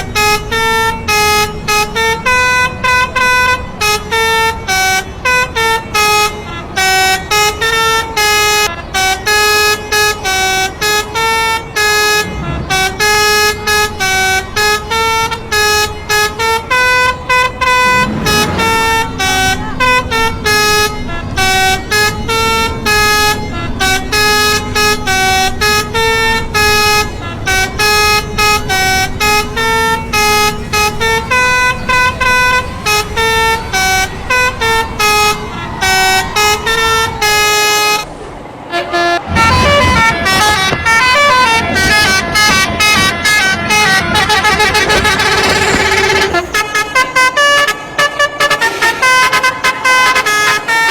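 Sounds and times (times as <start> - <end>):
multi-trumpet musical air horn: 0.0 - 38.1, 38.7 - 50.9.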